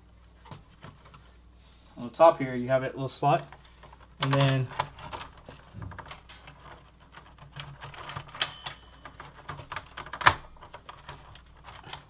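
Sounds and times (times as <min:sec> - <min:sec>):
computer case parts clicking and rattling: 0:00.3 - 0:01.3, 0:03.2 - 0:12.0.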